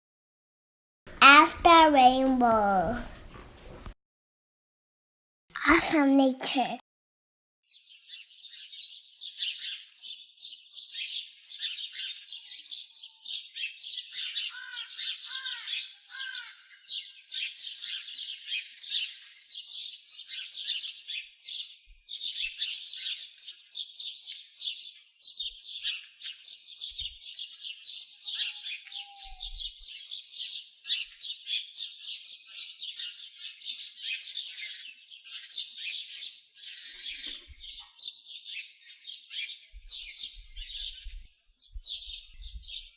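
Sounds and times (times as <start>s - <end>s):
birds chirping and singing: 7.7s - 42.9s.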